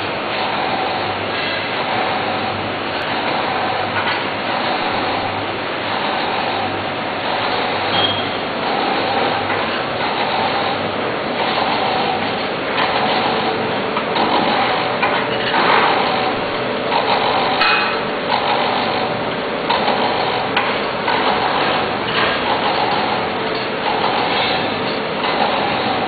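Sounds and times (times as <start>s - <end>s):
packing machine clattering: 0.0s - 26.0s.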